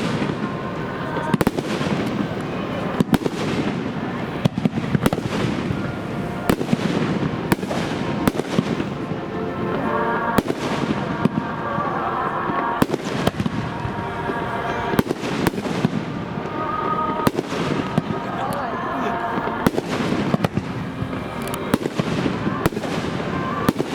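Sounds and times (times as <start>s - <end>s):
fireworks bangs: 0.0s - 23.9s
fireworks crackle and echo: 0.0s - 23.9s.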